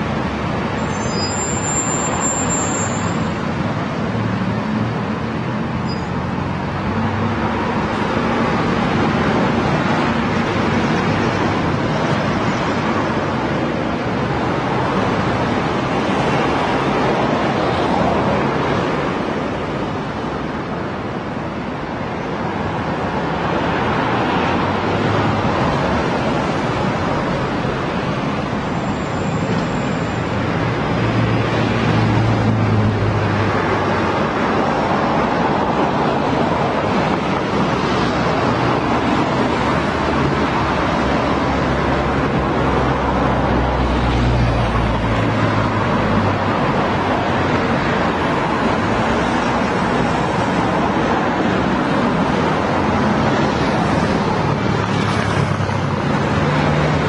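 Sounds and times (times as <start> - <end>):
passing cars: 0.0 - 57.0.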